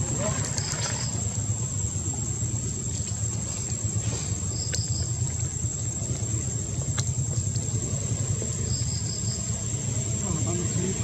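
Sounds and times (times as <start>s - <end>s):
high insect whine: 0.0s - 11.0s.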